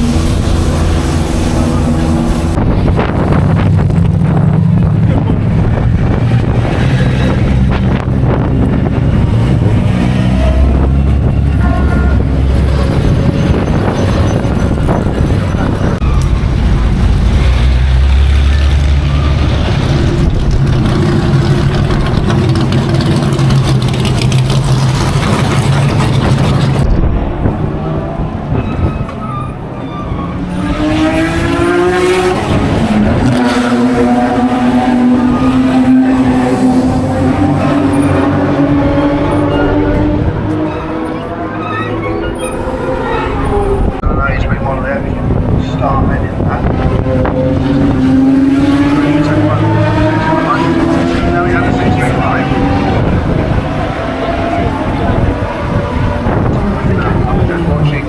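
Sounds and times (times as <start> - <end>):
racing car engines running: 0.0 - 58.0.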